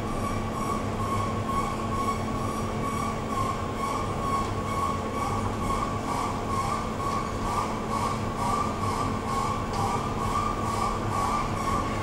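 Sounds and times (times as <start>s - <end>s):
inclined elevator hum and rumble: 0.0s - 12.0s.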